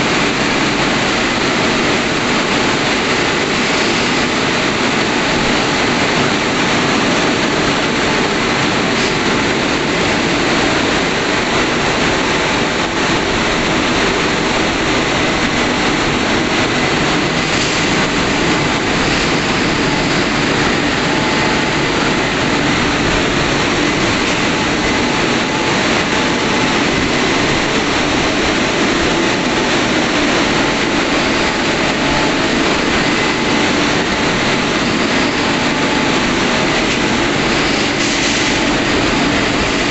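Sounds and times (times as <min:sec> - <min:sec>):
car wash blowers rushing air: 0:00.0 - 0:39.9.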